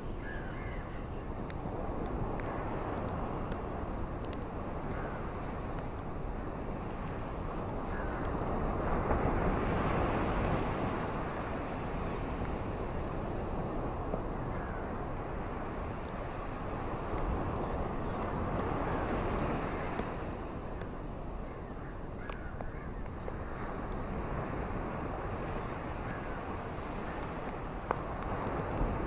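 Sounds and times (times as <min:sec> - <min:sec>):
wind: 0:00.0 - 0:29.0.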